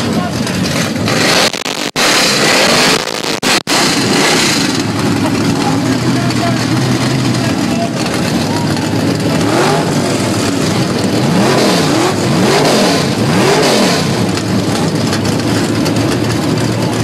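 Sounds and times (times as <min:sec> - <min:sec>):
engine revving and idling: 0:00.0 - 0:17.0.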